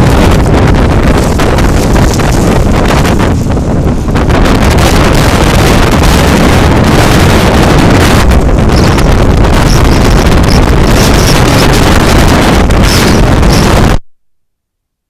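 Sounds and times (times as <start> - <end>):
blizzard wind buffeting microphone: 0.0 - 14.0.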